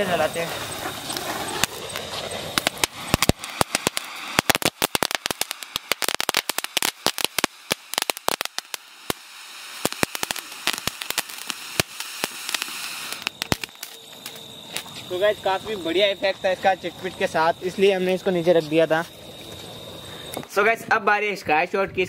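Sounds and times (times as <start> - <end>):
pencil firework hissing and crackling: 0.0 - 20.3.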